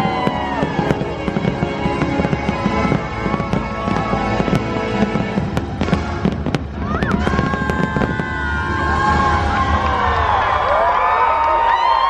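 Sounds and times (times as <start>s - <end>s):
fireworks bangs and crackles: 0.0s - 10.4s
music playing: 0.0s - 10.4s.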